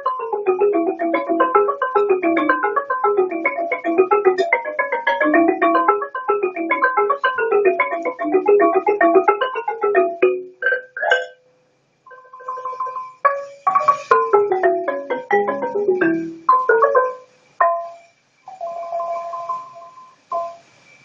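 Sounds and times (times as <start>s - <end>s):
wooden xylophone played with mallets: 0.0s - 11.4s, 12.1s - 20.8s.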